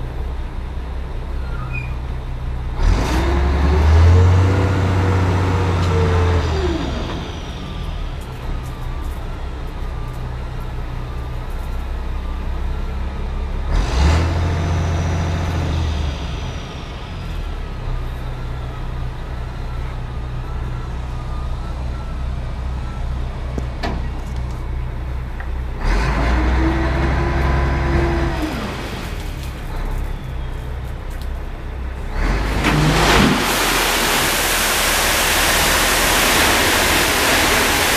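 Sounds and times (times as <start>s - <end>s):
diesel engine idling and revving: 0.0s - 37.9s.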